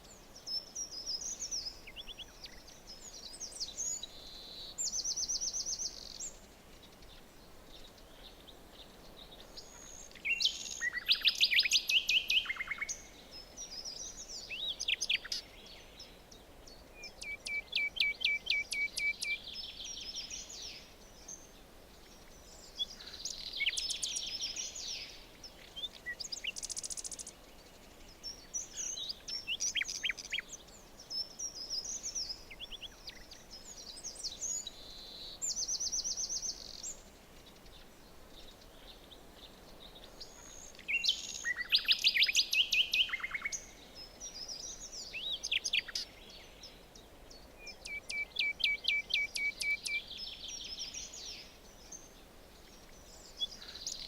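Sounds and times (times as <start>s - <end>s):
faint steady hiss: 0.0s - 54.0s
songbirds singing and trilling: 0.0s - 54.0s.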